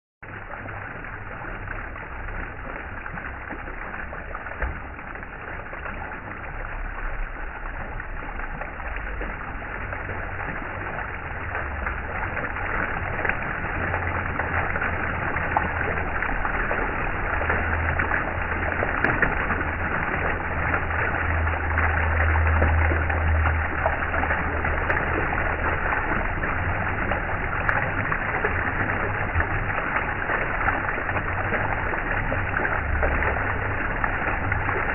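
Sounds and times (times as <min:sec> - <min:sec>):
low rumble: 0:00.2 - 0:34.9
running water rushing: 0:00.2 - 0:34.9.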